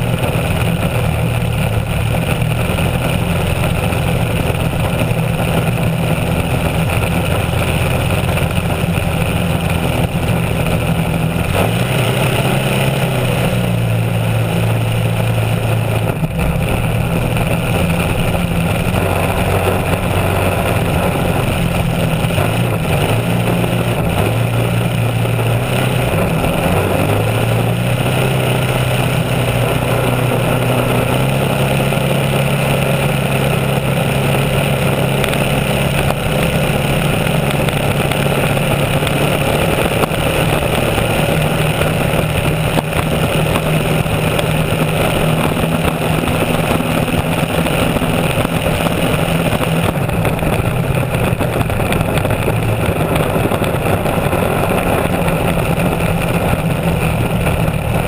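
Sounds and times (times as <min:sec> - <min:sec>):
racing outboard engine: 0:00.0 - 0:58.0
rush of spray and wind: 0:00.0 - 0:58.0.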